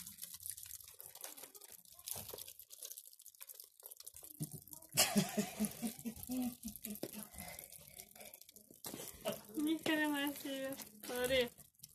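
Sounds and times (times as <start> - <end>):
stiff thread shell crackling: 0.0 - 11.9.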